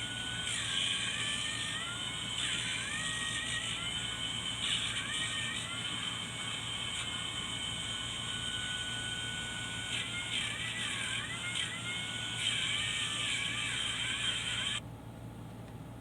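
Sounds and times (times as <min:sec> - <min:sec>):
angle grinder whining: 0:00.0 - 0:14.8.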